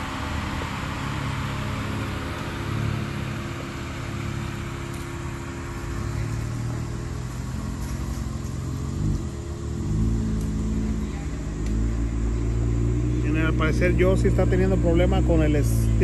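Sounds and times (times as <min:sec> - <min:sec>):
vehicle engine at low revs: 0:00.0 - 0:16.0.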